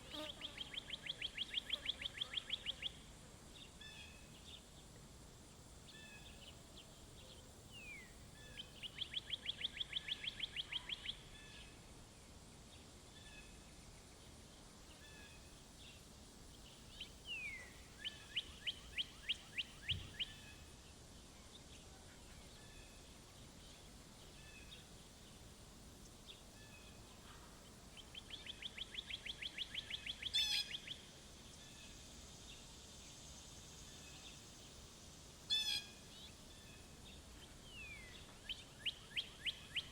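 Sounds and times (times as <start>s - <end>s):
faint chirps of other birds: 0.0s - 39.9s.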